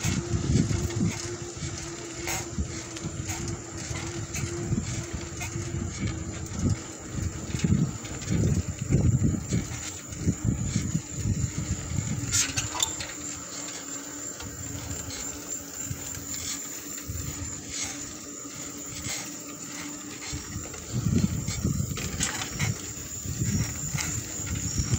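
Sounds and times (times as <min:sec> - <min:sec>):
wind buffeting microphone: 0:00.0 - 0:13.6, 0:14.3 - 0:24.9
bicycle tyre rumble on asphalt: 0:00.0 - 0:24.9.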